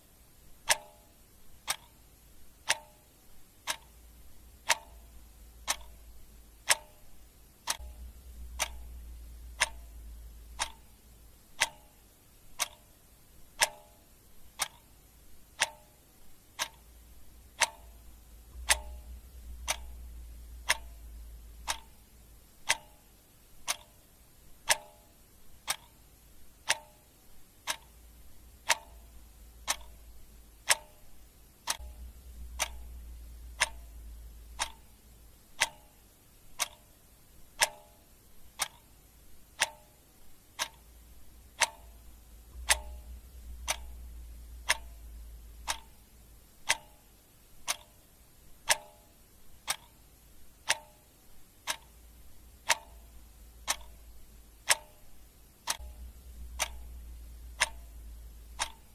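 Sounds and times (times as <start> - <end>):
clock ticking: 0.0 - 58.9
faint low hum: 0.0 - 58.9.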